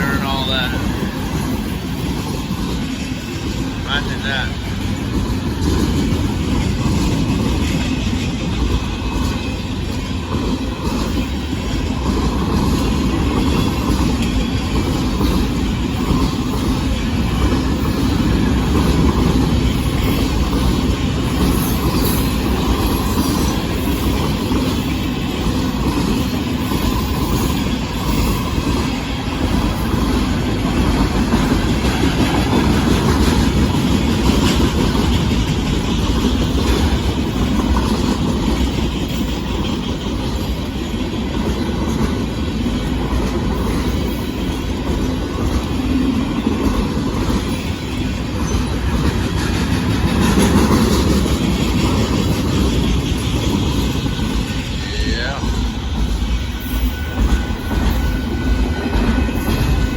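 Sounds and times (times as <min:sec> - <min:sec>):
steel train wheels on rails: 0:00.0 - 0:59.9.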